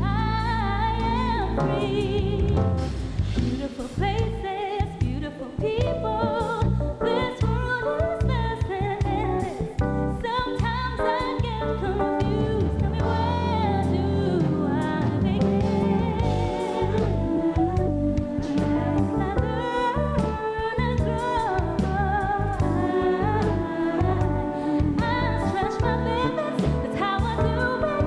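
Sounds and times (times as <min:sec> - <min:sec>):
woman singing with vibrato: 0:00.0 - 0:02.7, 0:03.4 - 0:28.0
bass guitar: 0:00.0 - 0:28.0
keyboards: 0:00.0 - 0:28.0.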